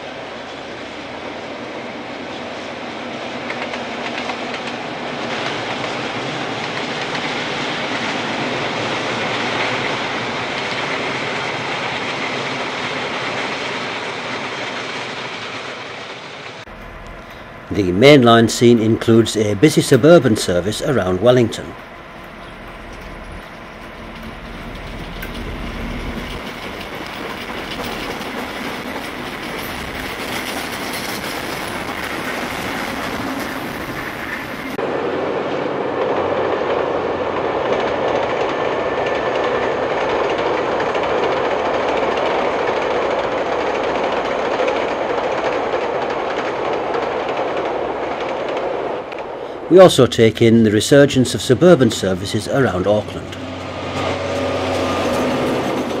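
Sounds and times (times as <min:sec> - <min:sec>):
train rumbling over bridge: 0:00.0 - 0:56.0
train wheels clacking: 0:03.4 - 0:17.5, 0:18.2 - 0:34.8, 0:36.0 - 0:49.4, 0:51.0 - 0:56.0.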